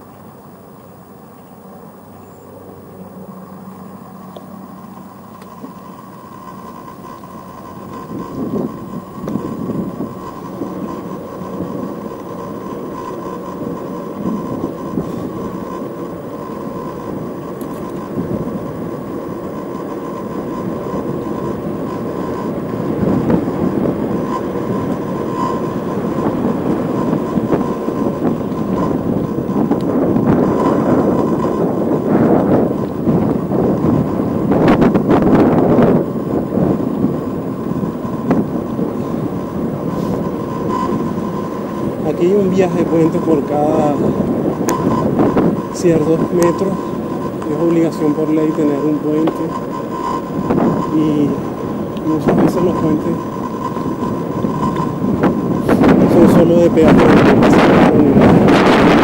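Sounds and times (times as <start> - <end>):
steady high tone: 0.0 - 59.0
steady whine: 0.0 - 59.0
street background noise: 0.0 - 59.0
vehicle engine hum: 0.0 - 59.0.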